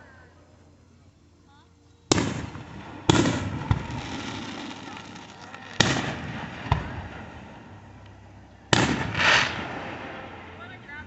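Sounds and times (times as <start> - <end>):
fireworks rumble: 0.0 - 11.0
fireworks bangs: 2.1 - 11.0.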